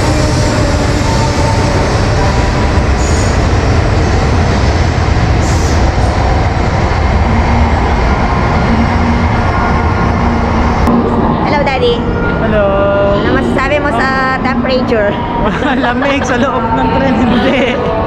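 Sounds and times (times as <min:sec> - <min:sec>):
train rumble and rush: 0:00.0 - 0:18.0.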